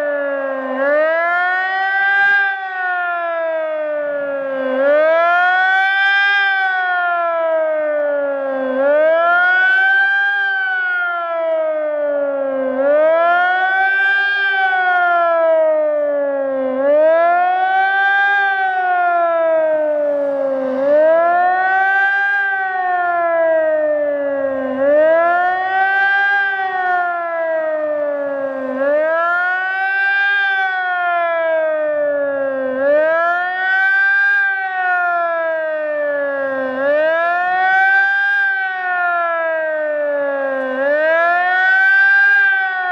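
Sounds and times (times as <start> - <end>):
lower siren tone: 0.0 - 42.9
wailing siren: 0.0 - 42.9.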